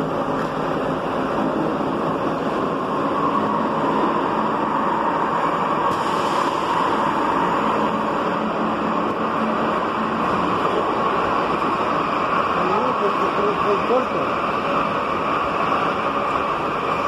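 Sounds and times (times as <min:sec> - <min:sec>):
train passing at speed: 0:00.0 - 0:17.0
underground trains rumbling: 0:00.0 - 0:17.0.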